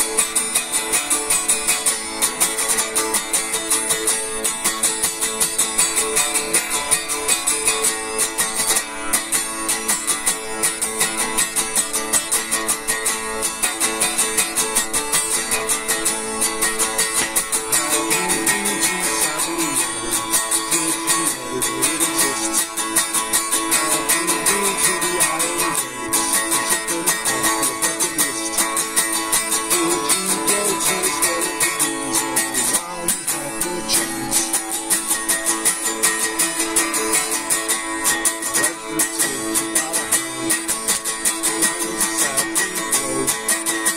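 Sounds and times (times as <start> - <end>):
electric guitar strumming: 0.0 - 43.9.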